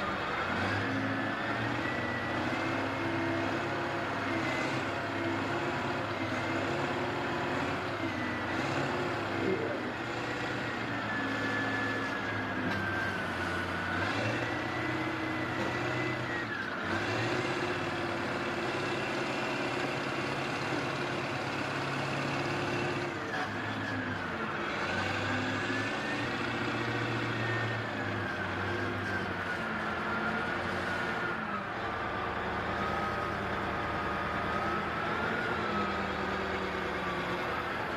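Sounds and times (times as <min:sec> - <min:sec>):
heavy equipment engine running: 0:00.0 - 0:37.9.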